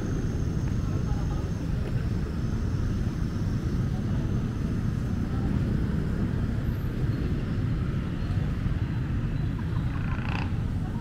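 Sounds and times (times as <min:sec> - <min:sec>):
low rumble of street ambience: 0:00.0 - 0:11.0.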